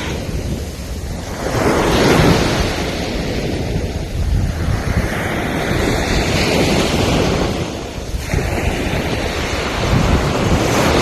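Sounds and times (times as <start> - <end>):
ocean surf washing onto shore: 0.0 - 11.0
wind buffeting microphone: 0.0 - 11.0.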